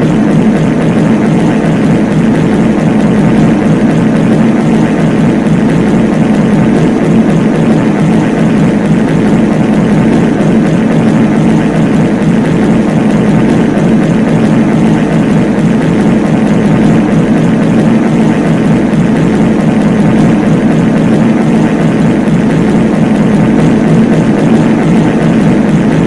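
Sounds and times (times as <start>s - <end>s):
layered fart sounds rumbling: 0.0s - 26.0s.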